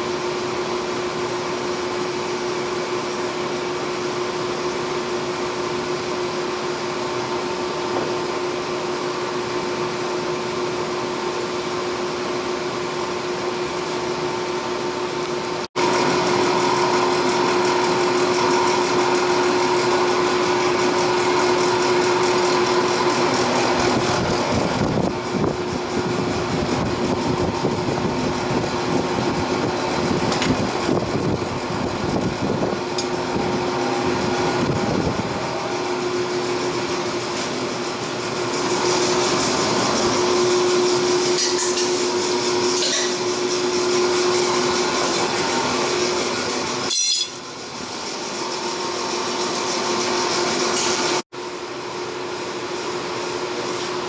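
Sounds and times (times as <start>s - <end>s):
machine humming and hissing: 0.0s - 54.0s.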